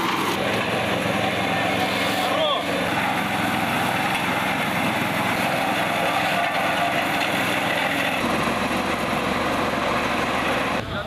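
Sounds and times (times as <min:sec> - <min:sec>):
road roller engine running: 0:00.0 - 0:11.0.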